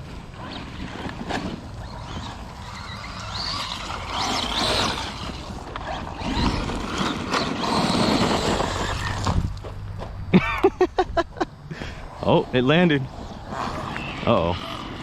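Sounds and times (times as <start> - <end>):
rc car drivetrain whine: 0.0 - 10.1, 12.0 - 15.0
rushing driving noise: 0.0 - 10.3, 11.2 - 15.0.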